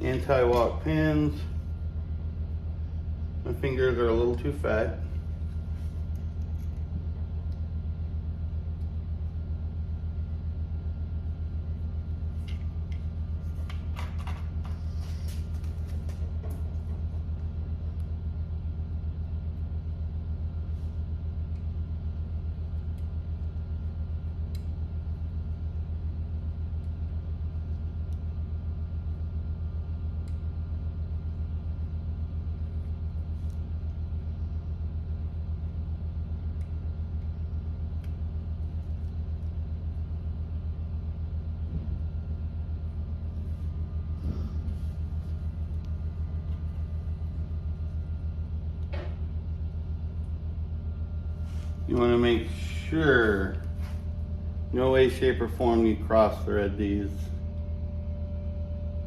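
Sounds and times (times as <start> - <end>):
muffled construction machinery rumble: 0.0 - 59.0.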